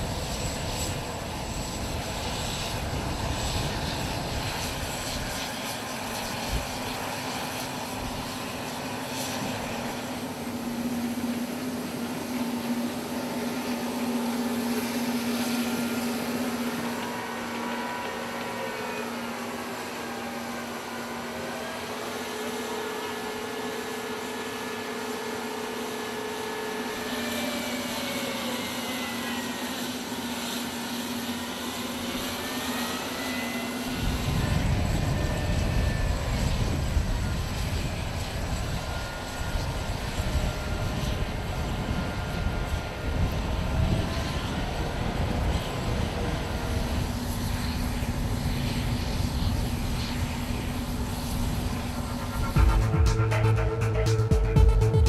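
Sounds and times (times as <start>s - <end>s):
gas turbine engines whining: 0.0s - 55.0s.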